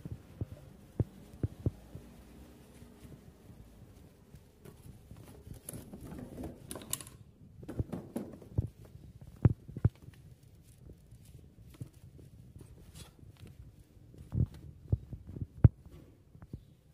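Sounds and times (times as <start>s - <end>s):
cat scratching and rustling: 0.0s - 6.9s, 8.5s - 15.5s.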